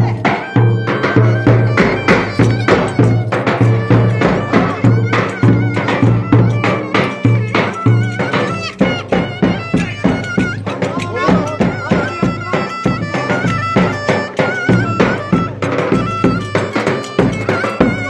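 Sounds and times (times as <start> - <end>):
steady drum beat: 0.0 - 18.0
wavering melody line: 0.0 - 18.0.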